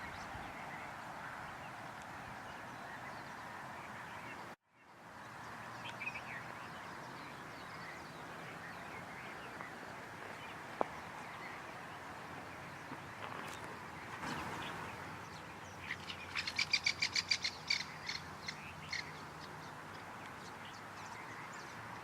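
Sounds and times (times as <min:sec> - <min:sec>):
birds chirping in chorus: 0:00.0 - 0:22.0.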